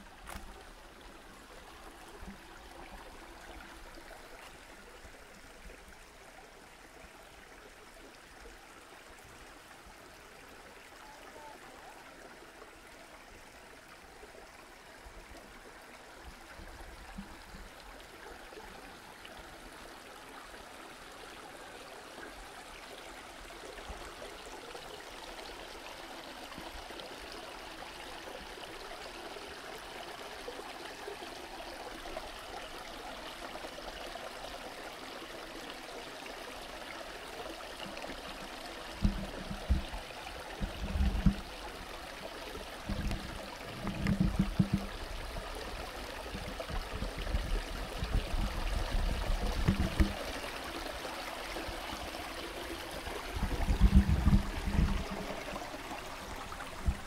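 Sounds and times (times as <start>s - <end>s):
stream running water: 0.0s - 57.0s.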